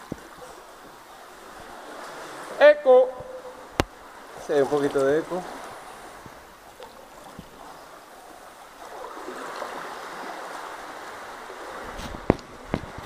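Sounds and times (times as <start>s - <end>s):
water sloshing around a kayak: 0.0s - 13.0s.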